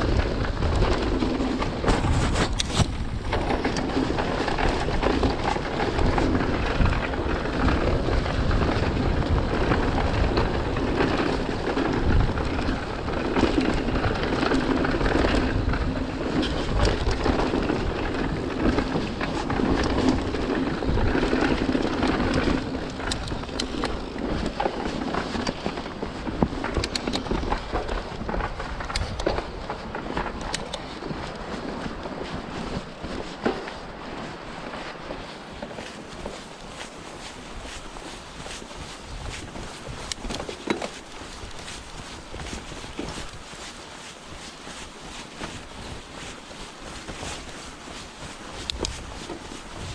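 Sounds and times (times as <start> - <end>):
bike rattling over rocks: 0.0 - 49.9
bike tyres rumbling and spraying: 0.0 - 49.9
wind buffeting microphone: 0.0 - 49.9.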